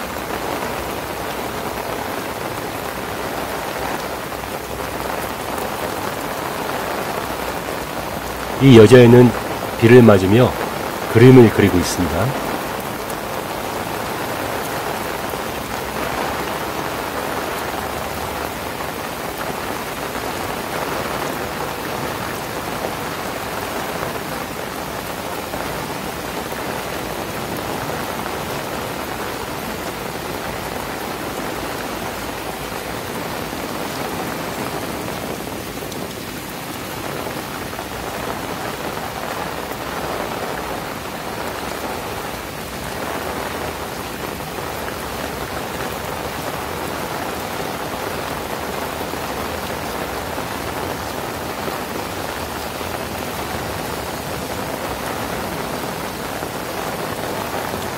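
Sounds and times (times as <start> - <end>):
heavy rain on grass: 0.0 - 57.9.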